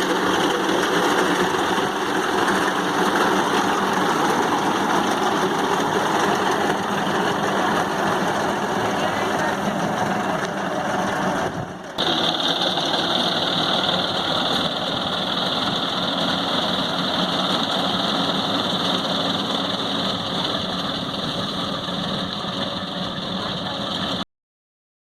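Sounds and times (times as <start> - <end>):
tractor engine running: 0.0 - 24.2.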